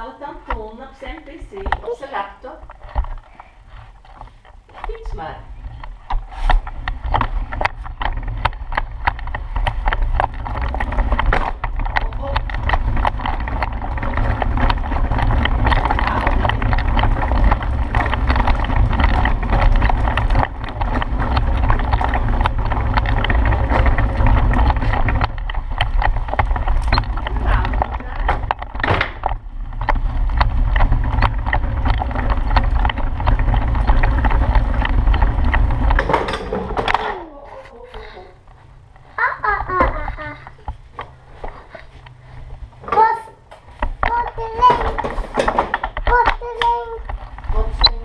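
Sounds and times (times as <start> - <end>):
tricycle rolling on hard floor: 0.0 - 48.0.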